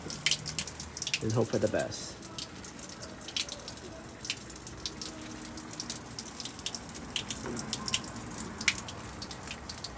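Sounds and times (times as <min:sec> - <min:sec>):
water dripping on wet floor: 0:00.0 - 0:09.9.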